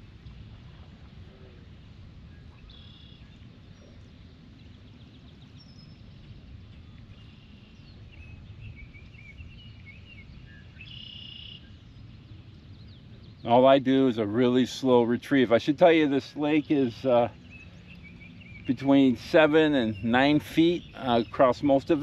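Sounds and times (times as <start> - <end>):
low outdoor background noise: 0.0 - 22.0
small birds chirping and trilling: 2.3 - 22.0.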